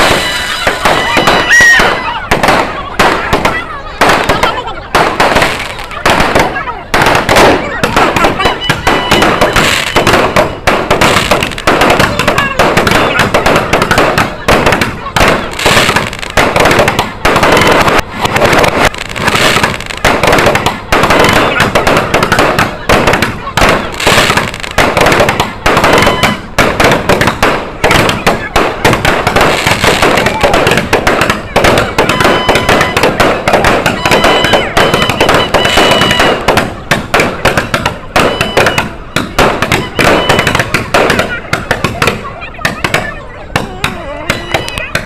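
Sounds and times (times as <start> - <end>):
fireworks crackling and popping: 0.0 - 45.0.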